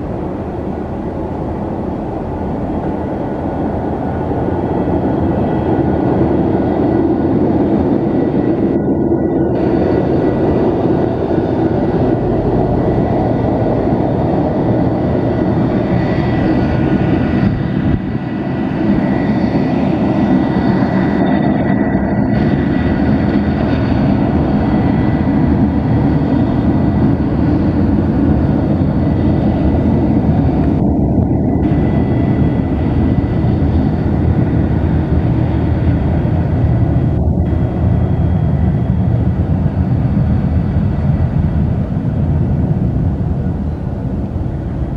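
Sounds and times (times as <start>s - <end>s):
high engine whine: 0.0s - 44.9s
jet engines rumbling: 0.0s - 44.9s.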